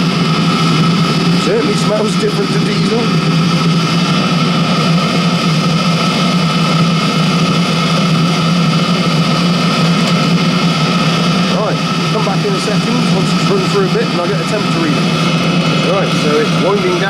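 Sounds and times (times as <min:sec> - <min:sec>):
burner rushing: 0:00.0 - 0:17.0
heater fan humming: 0:00.0 - 0:17.0.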